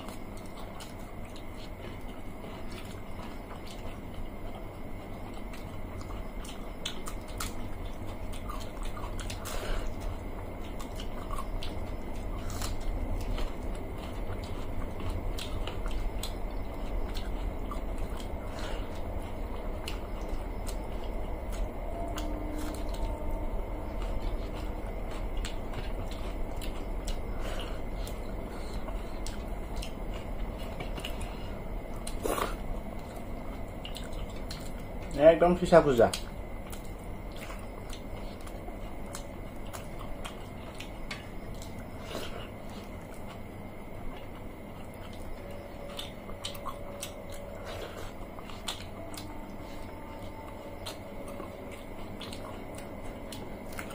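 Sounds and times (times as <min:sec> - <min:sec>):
chewing and biting: 0:00.0 - 0:35.2, 0:36.0 - 0:53.9
steady low hum: 0:00.0 - 0:53.9.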